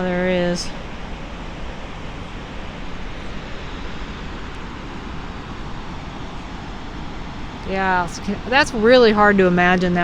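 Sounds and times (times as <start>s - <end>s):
river rapids rushing: 0.0s - 10.0s.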